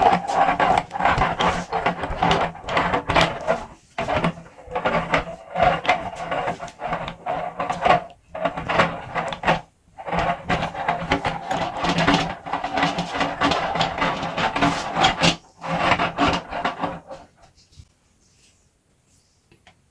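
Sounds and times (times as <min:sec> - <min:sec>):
meat grinder churning: 0:00.0 - 0:17.3.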